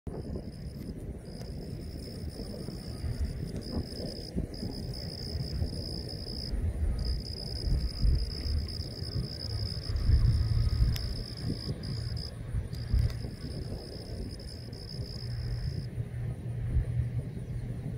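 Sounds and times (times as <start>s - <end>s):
high insect trill: 0.1s - 15.9s
wind rumble on microphone: 0.1s - 17.9s.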